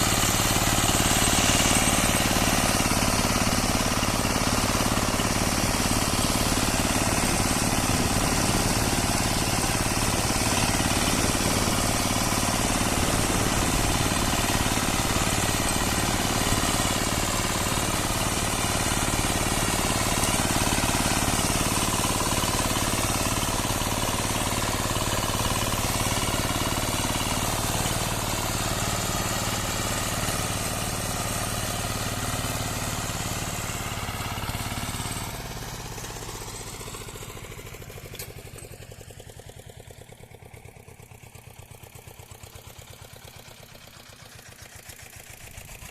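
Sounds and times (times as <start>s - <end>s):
walk-behind tractor engine tilling: 0.0s - 45.9s.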